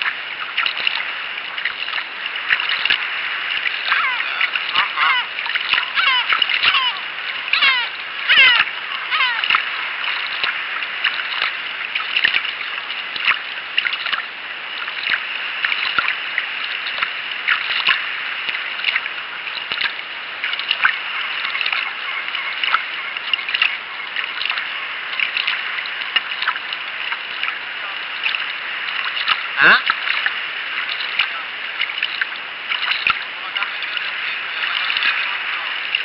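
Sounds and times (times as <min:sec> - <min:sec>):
paddle splashing water: 0:00.0 - 0:36.0.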